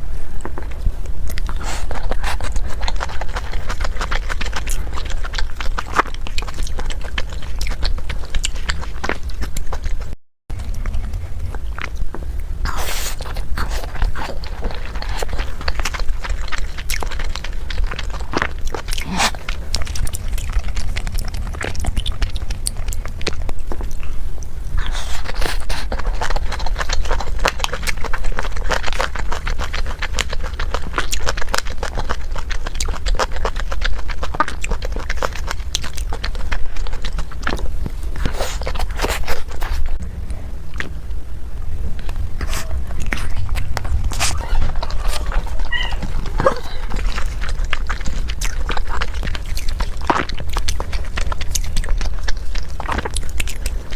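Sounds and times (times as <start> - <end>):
low hum: 0.0 - 30.8, 34.8 - 53.9
person chewing food: 0.0 - 41.2, 41.9 - 53.9.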